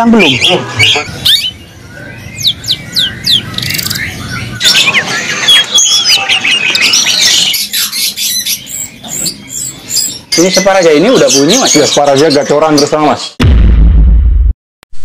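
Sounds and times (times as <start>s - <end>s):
songbirds singing: 0.0s - 13.4s.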